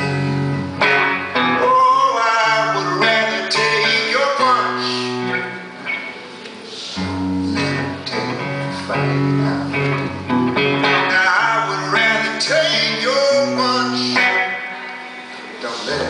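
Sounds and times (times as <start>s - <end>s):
electric guitar: 0.0s - 16.0s
live band music: 0.0s - 16.0s.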